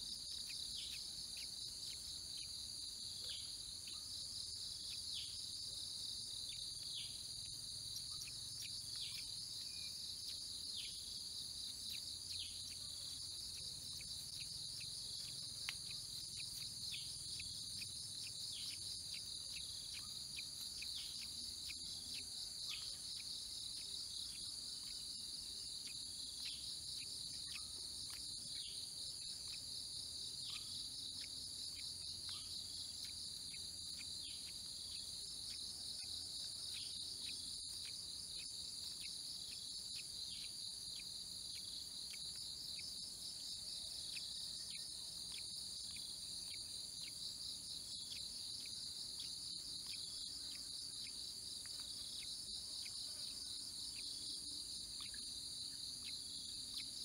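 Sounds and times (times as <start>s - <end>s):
faint insect chirps: 0.0s - 57.0s
insects chorus: 0.0s - 57.0s.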